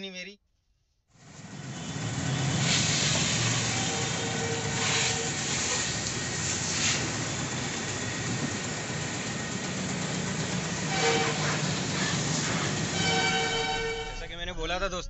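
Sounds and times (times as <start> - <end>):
hose water jet spraying car: 1.2 - 13.9.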